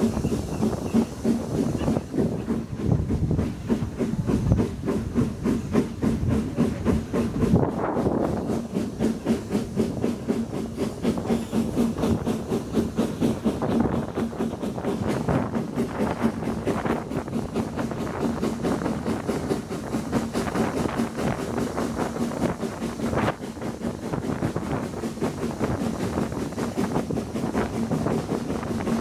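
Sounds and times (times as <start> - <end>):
coach wheels clattering on rails: 0.0 - 29.0
steam locomotive exhaust beats: 0.0 - 29.0.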